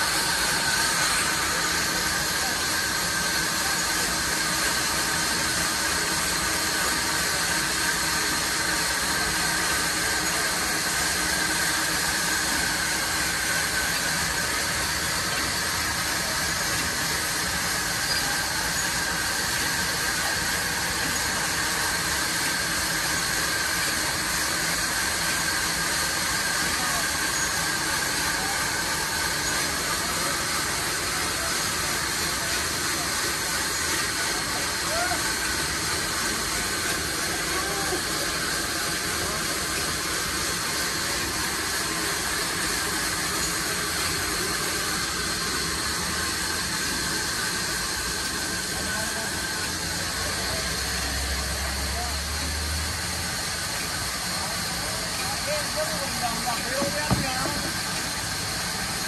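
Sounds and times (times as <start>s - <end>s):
band sawmill cutting log: 0.0s - 59.0s.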